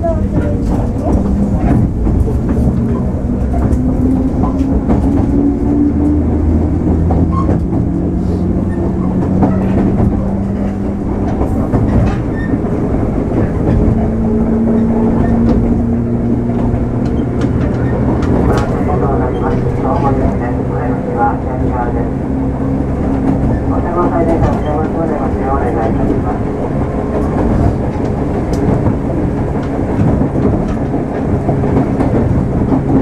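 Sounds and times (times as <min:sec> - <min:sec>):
train wheels rumbling: 0:00.0 - 0:33.0
wheels clicking on rails: 0:00.0 - 0:33.0.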